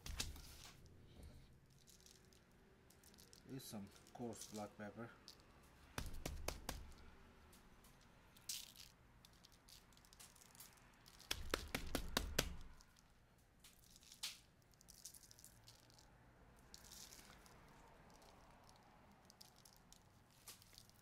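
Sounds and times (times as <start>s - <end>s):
pepper rattling in shaker: 1.6s - 21.0s.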